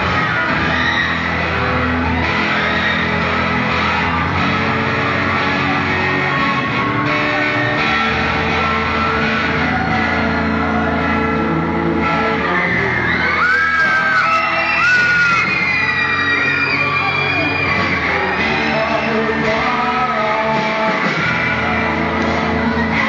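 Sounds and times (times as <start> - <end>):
rock music with guitar: 0.0 - 23.0.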